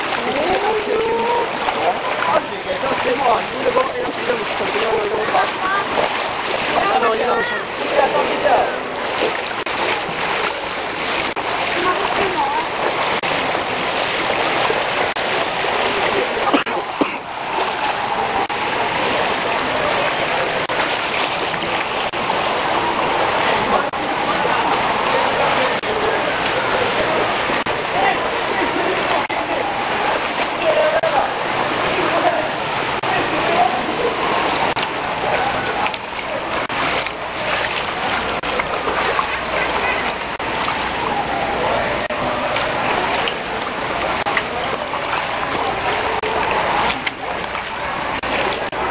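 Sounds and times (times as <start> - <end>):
hiss of floodwater and rain: 0.0 - 48.9
water splashing from wading: 0.0 - 48.9.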